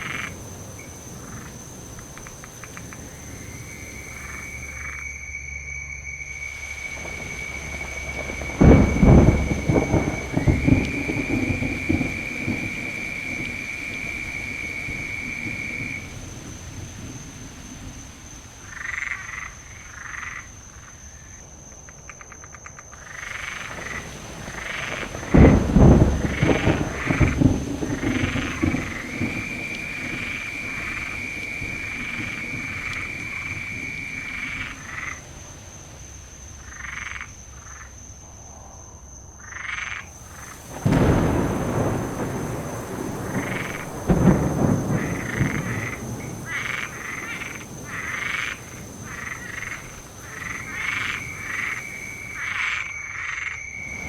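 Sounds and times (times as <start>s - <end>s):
thunder rumbling: 0.0s - 21.2s, 23.1s - 39.3s, 40.1s - 53.0s, 53.7s - 54.0s
frogs croaking: 0.0s - 54.0s.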